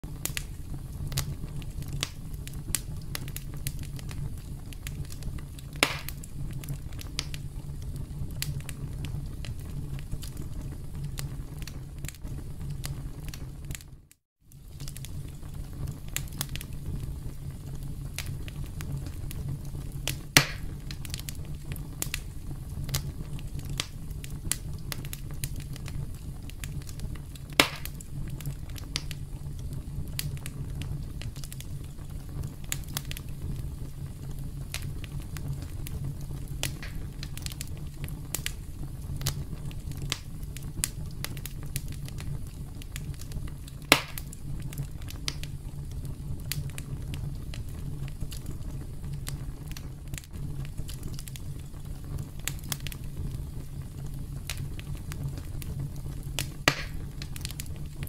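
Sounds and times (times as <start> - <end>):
campfire crackling: 0.0 - 58.0
loud fire pops: 0.0 - 58.0
low rumble of flames: 0.0 - 58.0.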